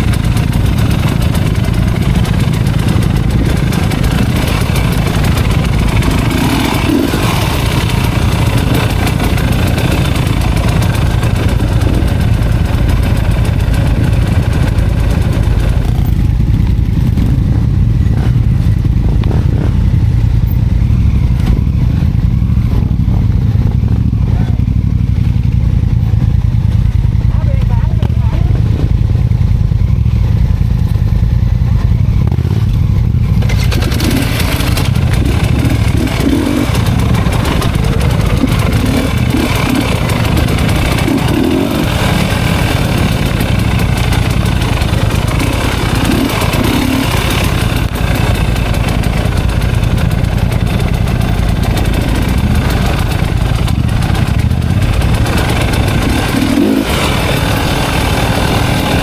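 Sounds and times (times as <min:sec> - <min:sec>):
off-road motorcycle engine: 0:00.0 - 0:59.0.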